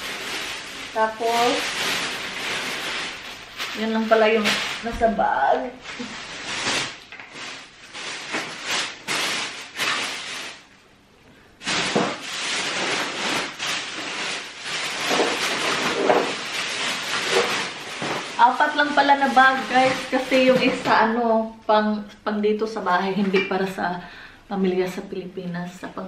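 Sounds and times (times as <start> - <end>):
plastic bags rustling: 0.0 - 21.5.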